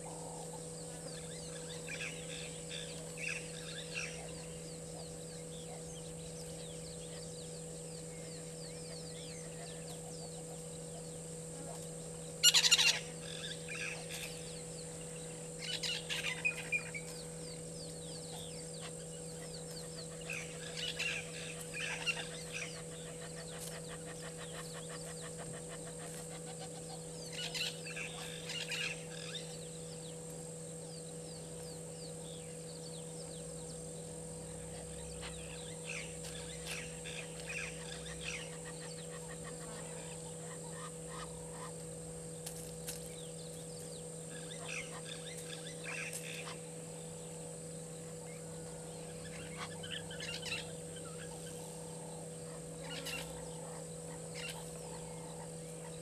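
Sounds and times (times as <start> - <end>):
steady hum: 0.0 - 56.0
wild birds calling: 0.0 - 56.0.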